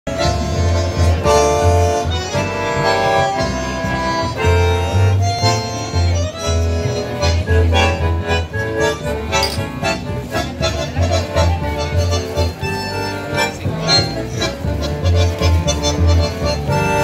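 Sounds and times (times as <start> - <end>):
bandoneon chords: 0.1 - 17.0
double bass plucked notes: 0.1 - 17.0.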